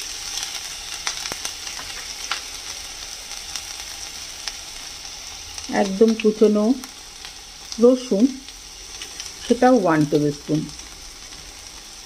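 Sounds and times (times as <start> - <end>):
ginger sizzling in hot oil: 0.0 - 12.0.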